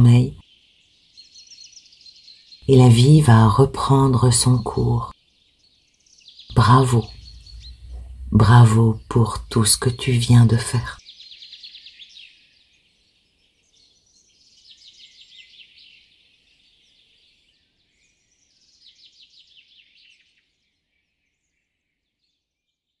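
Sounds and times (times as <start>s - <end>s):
songbirds chirping trills: 0.0s - 22.3s.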